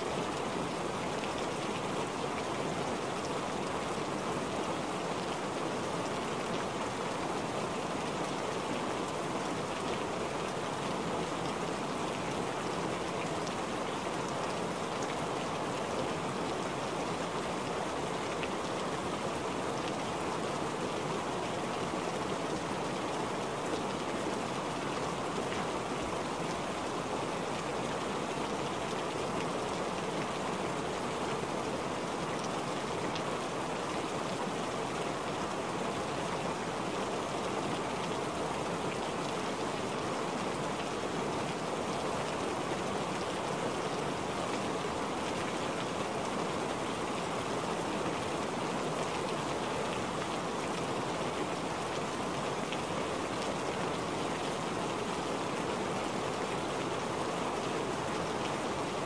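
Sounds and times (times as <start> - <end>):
rain on wet puddled surface: 0.0 - 59.0.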